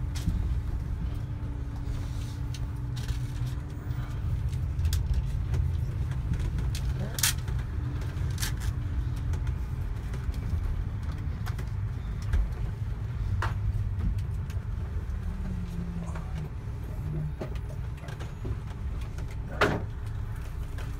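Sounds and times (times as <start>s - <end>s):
diesel engine rumble: 0.0s - 20.9s.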